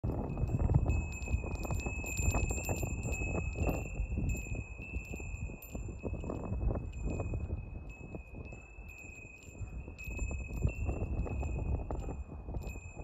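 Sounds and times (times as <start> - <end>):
wind chime ringing: 0.1 - 13.0.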